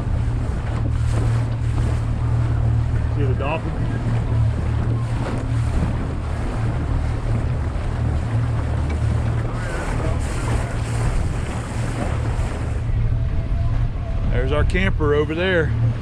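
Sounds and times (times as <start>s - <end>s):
outboard motors droning: 0.0s - 16.0s
wind buffeting microphone: 0.0s - 16.0s.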